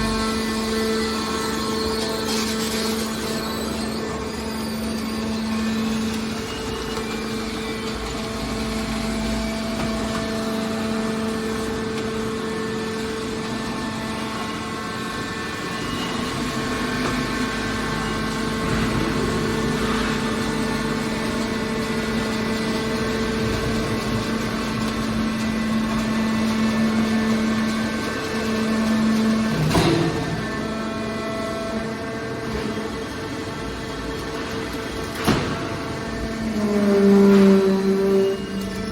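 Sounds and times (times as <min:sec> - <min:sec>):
baler motor humming: 0:00.0 - 0:38.9.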